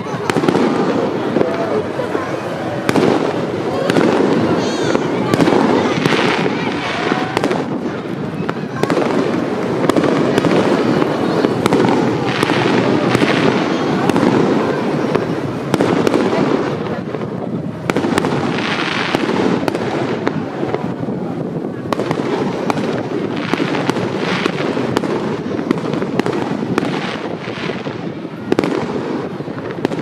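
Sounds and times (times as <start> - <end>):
firework crackling: 0.0 - 30.0
fireworks banging: 0.0 - 30.0.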